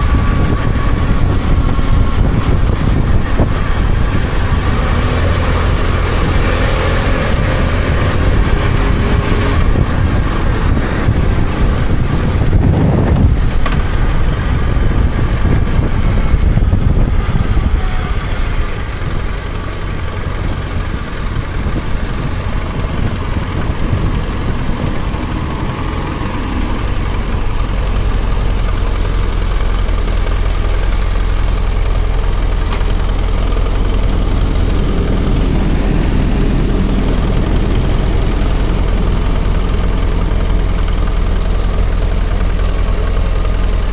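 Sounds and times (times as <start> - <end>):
motorcycle engine running: 0.0 - 43.9
road noise: 0.0 - 43.9.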